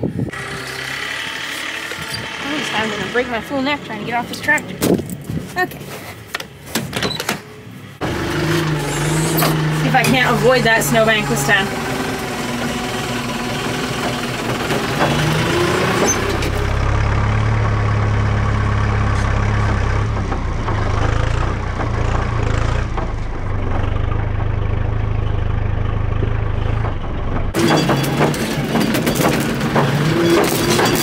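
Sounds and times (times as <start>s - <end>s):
tractor diesel engine running: 0.0s - 6.8s, 7.5s - 31.0s.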